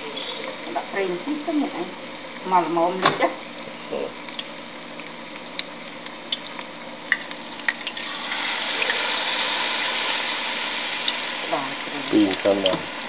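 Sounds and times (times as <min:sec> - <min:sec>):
oil sizzling with crackling pops: 0:00.0 - 0:13.0.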